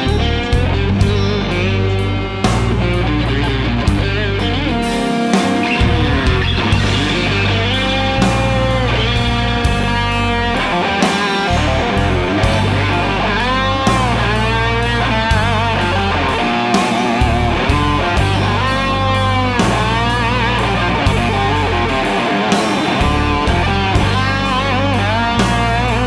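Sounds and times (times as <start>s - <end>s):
bass guitar: 0.0s - 26.0s
electric guitar solo: 0.0s - 26.0s
steady drum beat: 0.0s - 26.0s.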